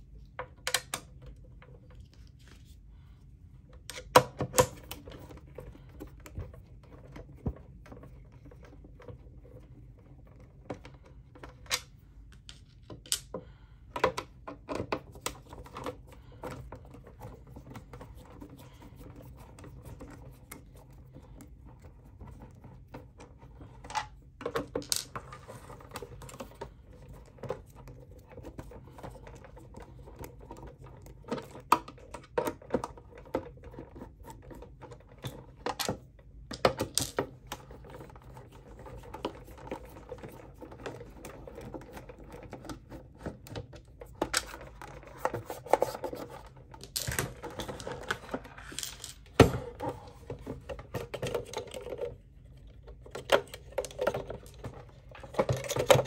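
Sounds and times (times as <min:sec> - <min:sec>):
plastic parts clicking and knocking: 0:00.4 - 0:02.3, 0:03.7 - 0:56.0.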